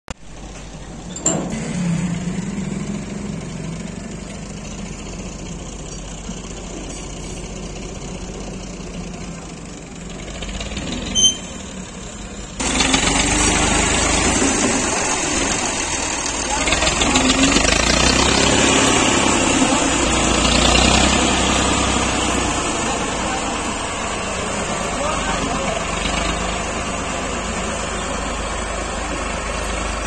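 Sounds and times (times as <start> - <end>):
tractor diesel engine running: 0.1 - 30.0.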